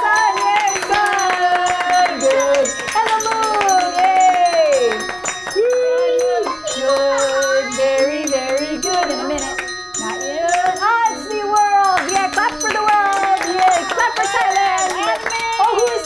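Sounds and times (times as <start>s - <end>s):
bells ringing: 0.0s - 16.0s
voices singing held notes: 0.0s - 16.0s.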